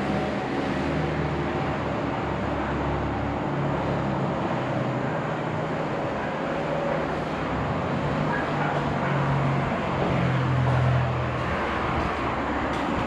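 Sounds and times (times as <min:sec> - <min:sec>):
highway traffic hum: 0:00.0 - 0:13.0.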